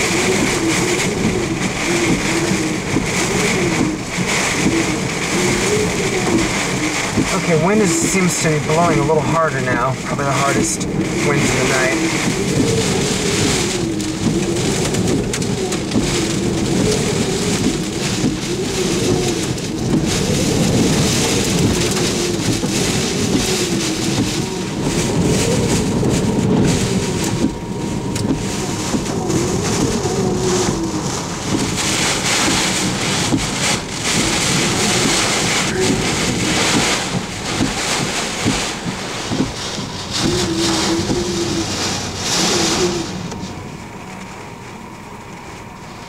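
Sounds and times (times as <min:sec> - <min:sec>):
wind and rain battering car: 0:00.0 - 0:46.0
wind whistling: 0:00.0 - 0:46.0.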